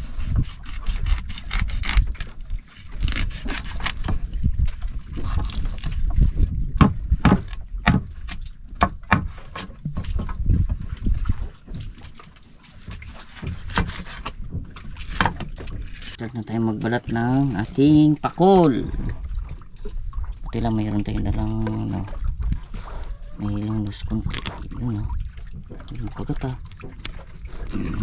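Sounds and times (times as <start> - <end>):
water noise: 0.0 - 28.0
wind: 0.0 - 28.0.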